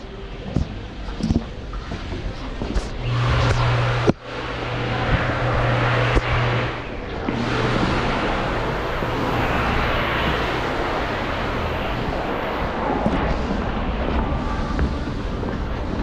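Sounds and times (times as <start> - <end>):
broad rushing noise: 0.0 - 16.0
low engine hum: 1.6 - 16.0.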